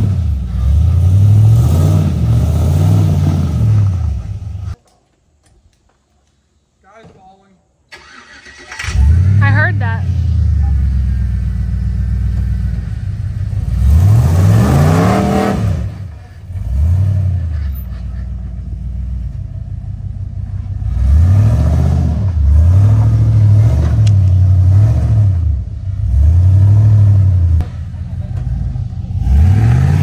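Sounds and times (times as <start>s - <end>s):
off-road vehicle engine revving: 0.0s - 4.8s, 8.0s - 30.0s.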